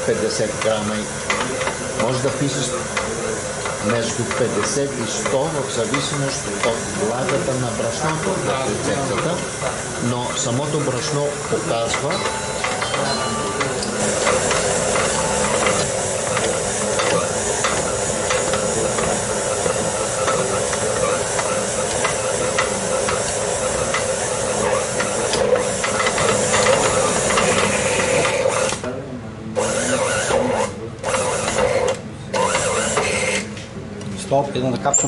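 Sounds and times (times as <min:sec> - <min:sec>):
electric mixer kneading dough: 0:00.0 - 0:33.6.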